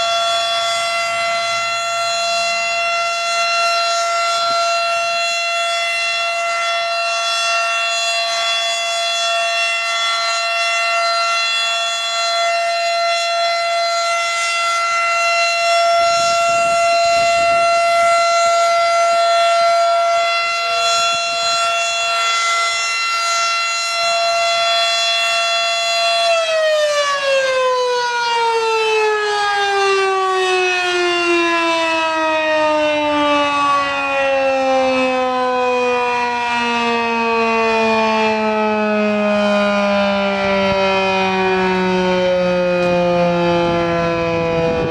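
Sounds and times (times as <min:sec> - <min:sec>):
warning siren winding down: 0:00.0 - 0:44.9.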